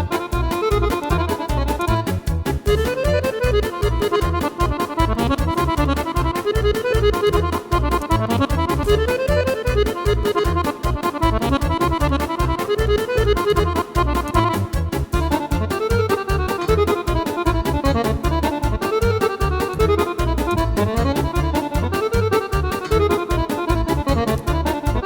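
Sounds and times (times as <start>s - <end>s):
drum and bass beat: 0.0s - 25.0s
keyboard lead melody: 0.0s - 25.0s.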